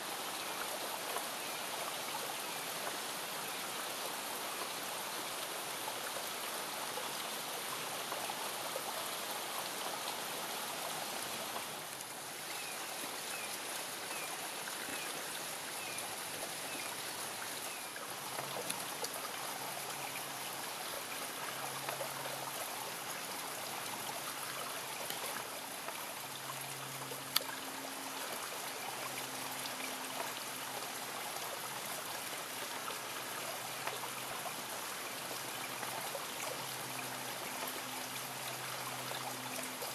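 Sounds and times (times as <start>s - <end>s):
heavy rain on leafy trees: 0.0s - 39.9s.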